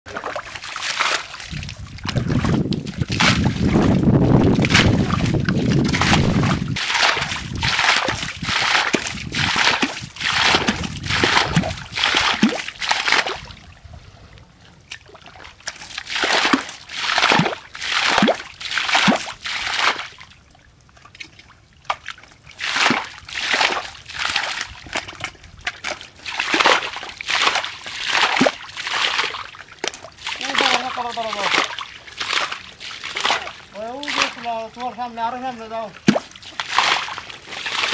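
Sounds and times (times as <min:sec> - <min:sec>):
wet mud splashing and sloshing: 0:00.1 - 0:14.1, 0:14.8 - 0:37.9.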